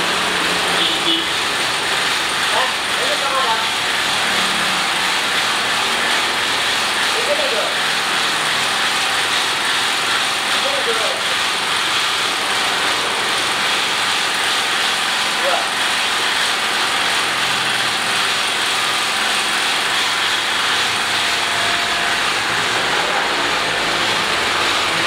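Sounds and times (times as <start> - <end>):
machine whirring: 0.0 - 25.0.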